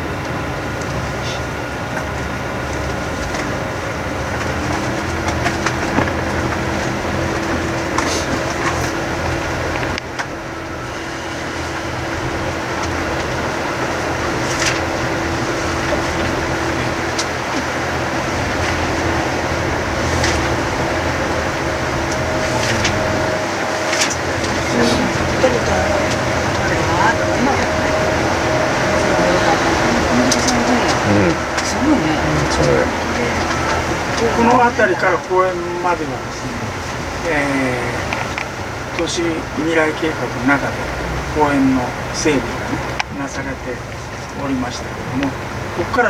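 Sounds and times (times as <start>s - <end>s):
boat motor droning: 0.0s - 46.0s.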